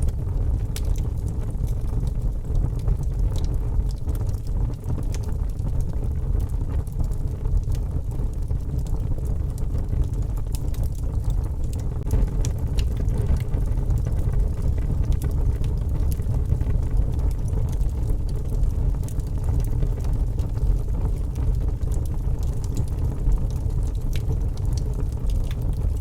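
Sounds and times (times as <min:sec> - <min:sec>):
low fire rumble: 0:00.0 - 0:26.0
wood fire pops and snaps: 0:00.0 - 0:26.0.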